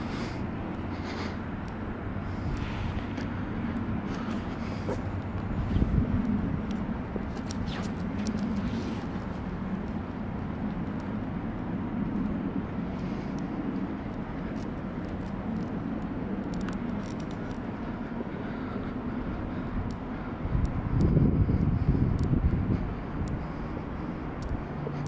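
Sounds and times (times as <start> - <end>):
city background rumble: 0.0 - 25.0.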